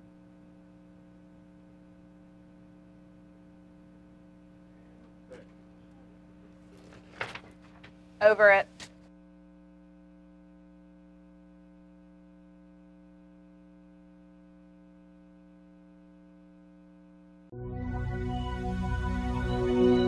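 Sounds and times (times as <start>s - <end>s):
faint electrical mains hum: 0.0s - 17.5s.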